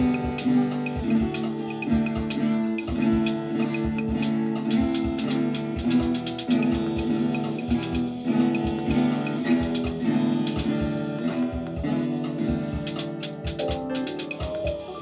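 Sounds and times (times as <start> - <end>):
guitar plucked and strummed: 0.0 - 15.0.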